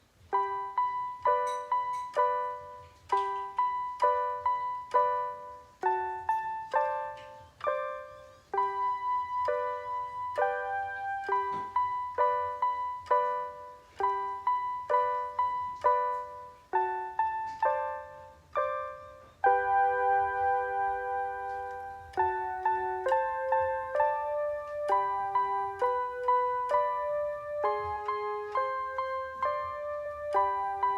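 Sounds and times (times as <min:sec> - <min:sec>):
simple piano piece: 0:00.0 - 0:30.9.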